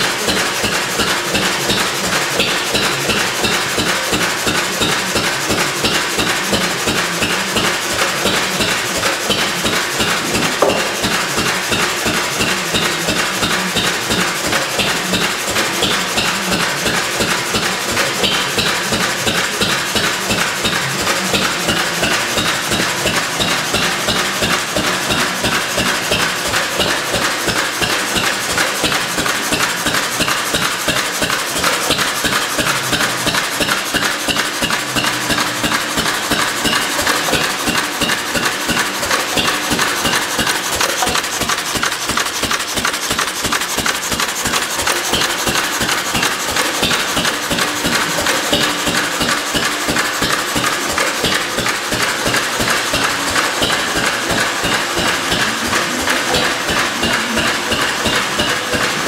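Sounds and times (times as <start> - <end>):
stationary engine knocking steadily: 0.0 - 59.0.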